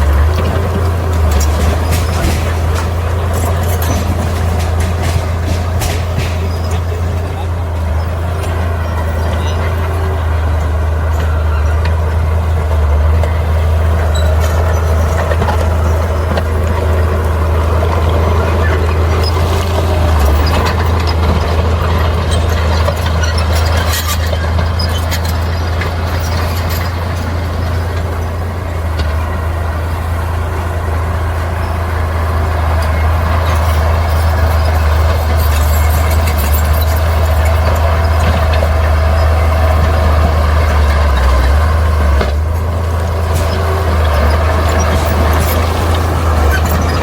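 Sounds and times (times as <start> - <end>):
bulldozer diesel engine droning: 0.0 - 47.0
metal clanks and rattles: 0.0 - 47.0.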